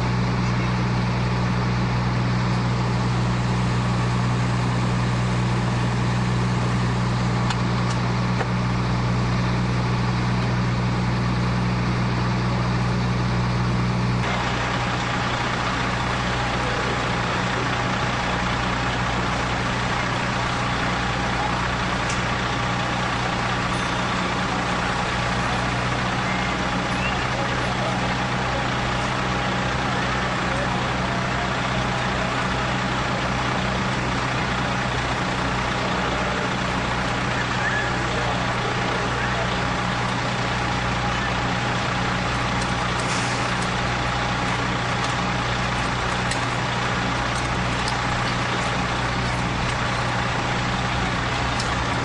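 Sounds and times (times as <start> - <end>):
fire truck engine humming: 0.0 - 52.0.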